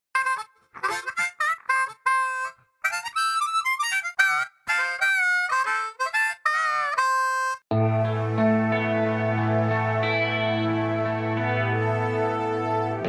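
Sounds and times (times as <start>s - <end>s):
harmonica music: 0.2s - 13.0s.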